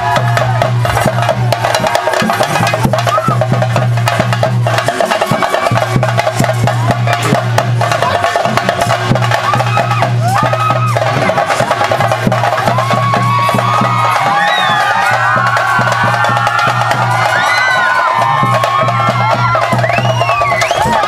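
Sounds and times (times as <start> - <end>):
drums beaten rapidly with sticks: 0.0 - 21.0.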